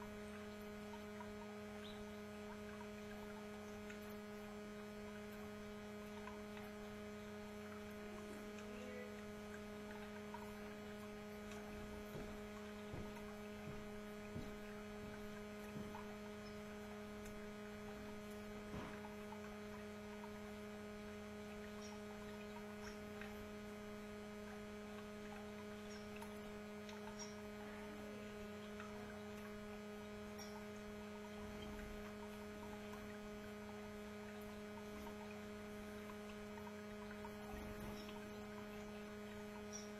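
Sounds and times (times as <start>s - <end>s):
faint electrical hum: 0.0s - 39.9s
faint small ticks and taps: 0.0s - 39.9s.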